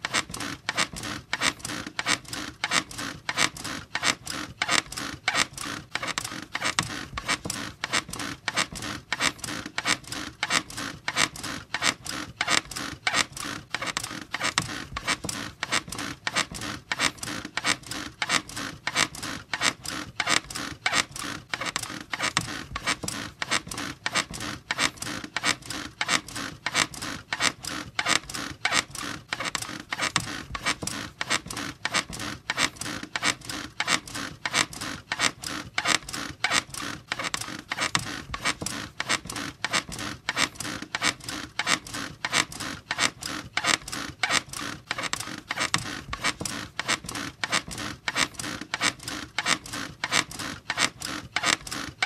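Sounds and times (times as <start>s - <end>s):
bed squeaking rhythmically: 0.0s - 52.0s.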